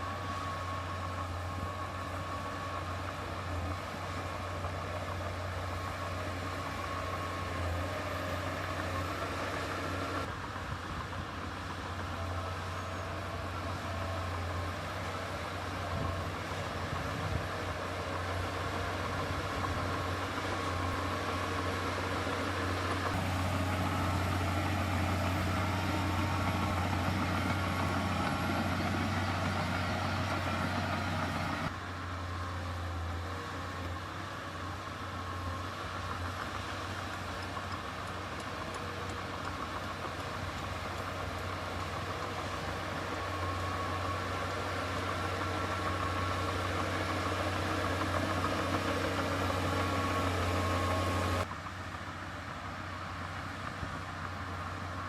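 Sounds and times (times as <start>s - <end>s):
heavy diesel machinery droning: 0.0s - 55.0s.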